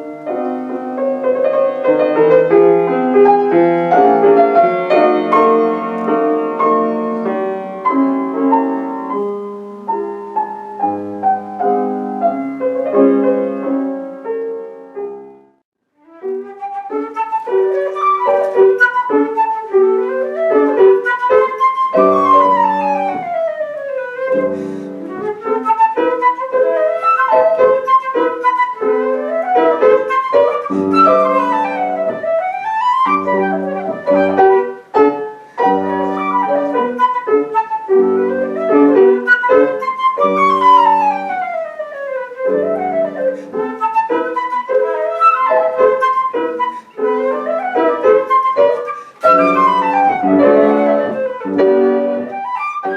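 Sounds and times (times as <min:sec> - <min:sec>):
flute: 0:00.0 - 0:09.2, 0:16.0 - 0:52.9
piano: 0:00.0 - 0:52.9.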